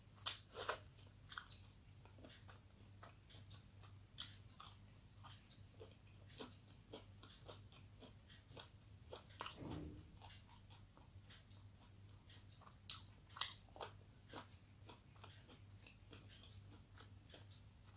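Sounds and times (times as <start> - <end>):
chewing crunches: 0.2 - 17.9
moist mouth clicks chewing: 0.2 - 17.9.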